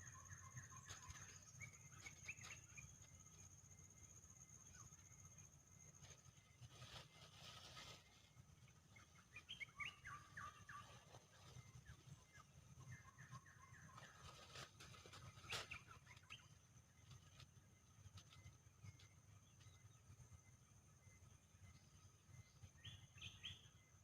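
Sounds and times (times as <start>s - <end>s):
faint bird chirping: 0.0s - 24.0s.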